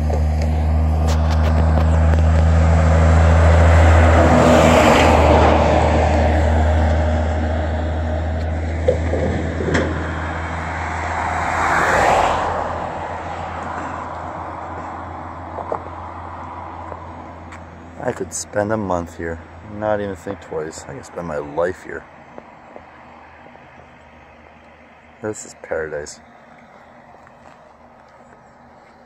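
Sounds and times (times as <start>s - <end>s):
low engine hum: 0.0s - 29.0s
vehicles passing: 0.0s - 29.0s.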